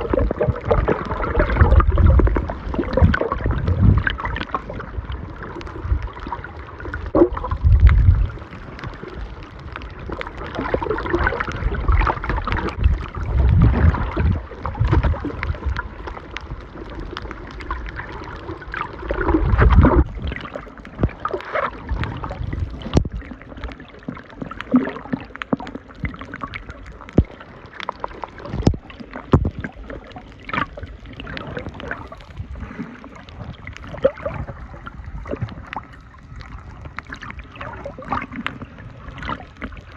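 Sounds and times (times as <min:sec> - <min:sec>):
heavy water surges: 0:00.0 - 0:39.9
water sloshing underwater: 0:00.0 - 0:39.9.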